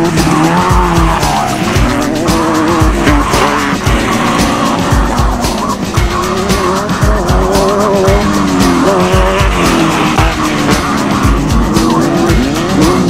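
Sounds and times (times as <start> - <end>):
music with driving drum beat: 0.0 - 13.0.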